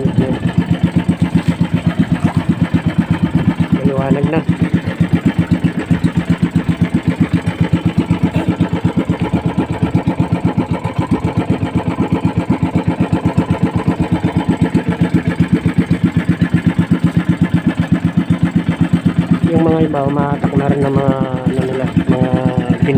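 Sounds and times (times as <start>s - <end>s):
small boat engine puttering: 0.0s - 22.9s.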